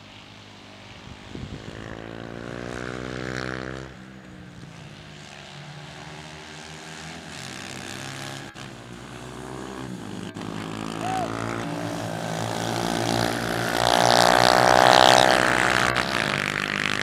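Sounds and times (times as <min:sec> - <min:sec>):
pit bike engines revving: 0:00.0 - 0:17.0.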